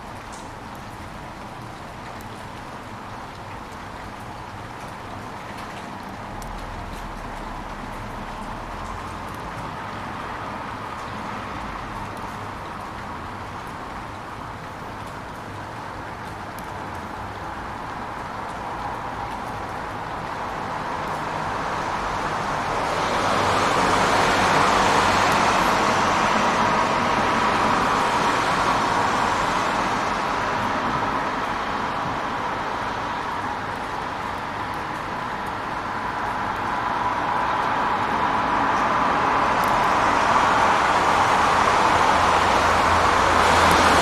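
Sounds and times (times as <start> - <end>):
tyres on wet road: 0.0 - 44.0
rain hissing: 4.1 - 44.0.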